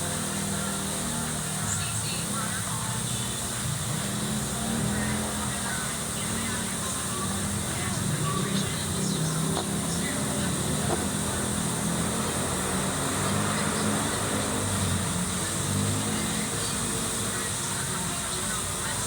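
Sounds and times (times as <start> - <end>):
concrete mixer engine running: 0.0 - 19.0.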